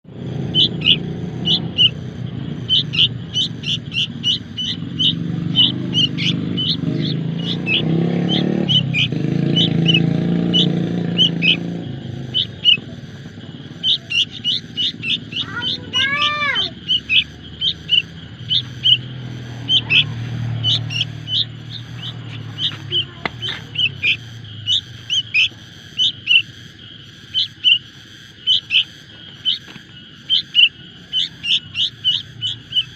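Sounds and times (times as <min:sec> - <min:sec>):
baby bird chirping: 0:00.1 - 0:32.9.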